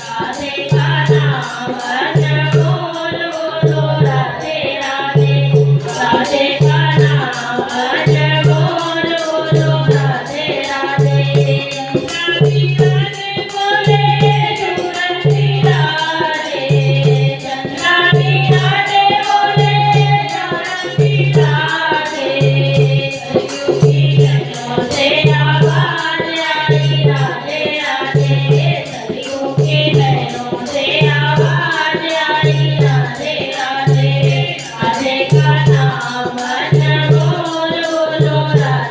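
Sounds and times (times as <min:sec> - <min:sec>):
tambourine jingling: 0:00.0 - 0:38.9
voices singing a chant: 0:00.0 - 0:38.9.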